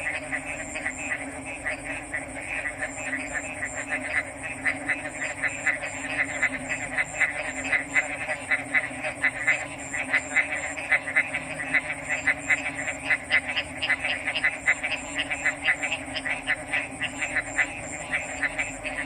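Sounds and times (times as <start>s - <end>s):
frogs calling rapidly: 0.0s - 19.0s
low frog chorus: 0.0s - 19.0s.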